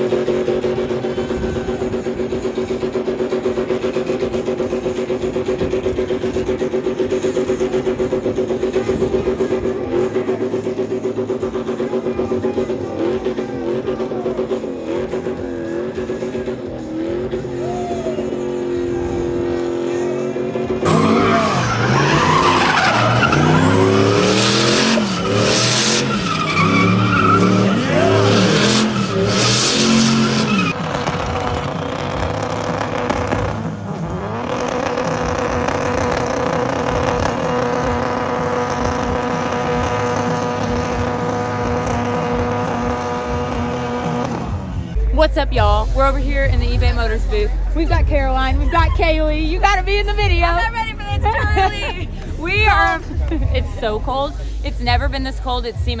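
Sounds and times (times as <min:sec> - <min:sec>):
car engine revving: 0:00.0 - 0:56.0
tires squealing: 0:00.0 - 0:56.0.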